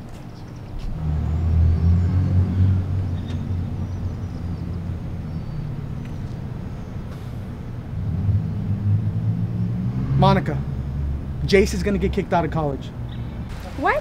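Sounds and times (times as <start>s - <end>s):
low outdoor rumble: 0.3s - 14.0s.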